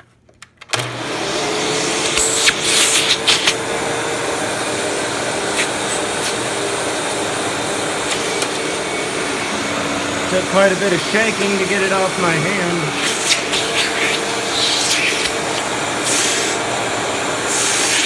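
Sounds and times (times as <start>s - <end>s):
vacuum cleaner running: 0.7s - 18.0s.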